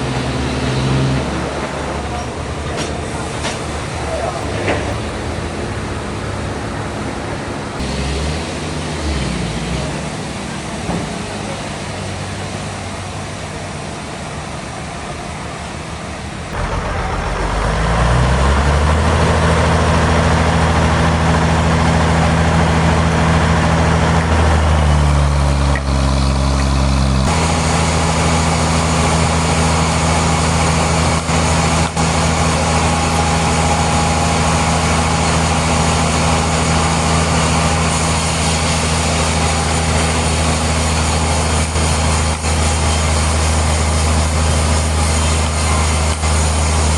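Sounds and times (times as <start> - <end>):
heavy machinery running: 0.0 - 46.9.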